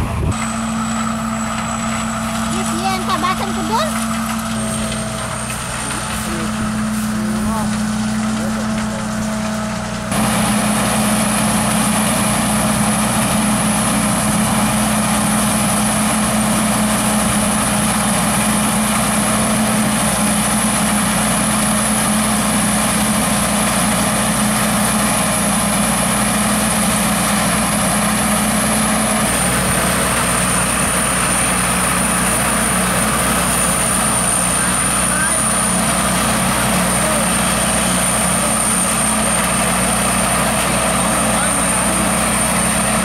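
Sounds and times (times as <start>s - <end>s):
combine harvester engine drone: 0.0s - 43.0s.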